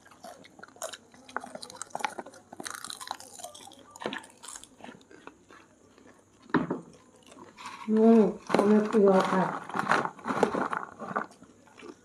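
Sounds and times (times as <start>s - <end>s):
people chewing popcorn: 0.0s - 12.0s.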